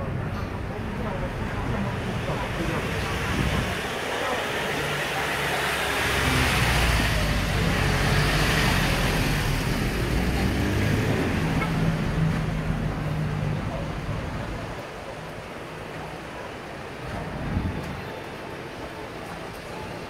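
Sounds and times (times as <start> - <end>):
road noise hiss: 0.0 - 20.0.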